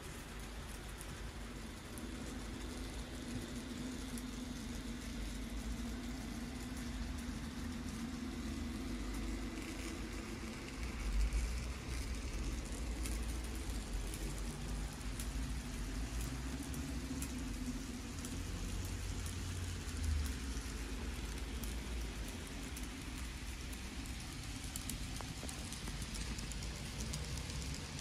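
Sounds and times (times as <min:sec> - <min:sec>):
model train motor hum: 0:00.0 - 0:28.0
small wheels clicking on track: 0:00.0 - 0:28.0.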